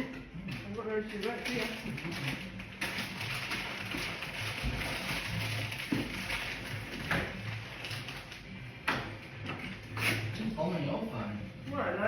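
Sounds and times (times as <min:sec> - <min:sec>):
packaging rustling: 0:00.5 - 0:10.3.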